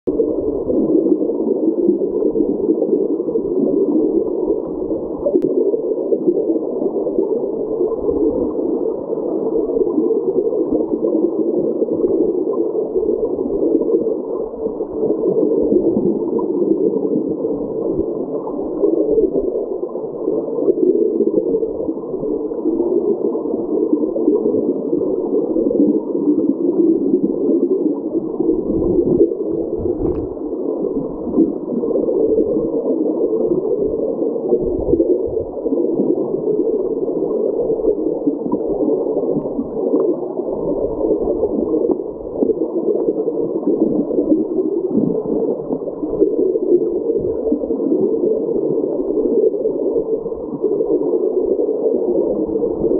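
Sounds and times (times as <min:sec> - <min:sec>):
muffled underwater water rush: 0:00.1 - 0:52.9.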